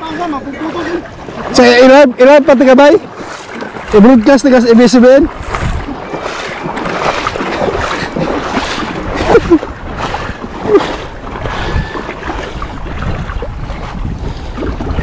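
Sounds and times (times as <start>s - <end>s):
fast river rushing: 0.0s - 15.0s.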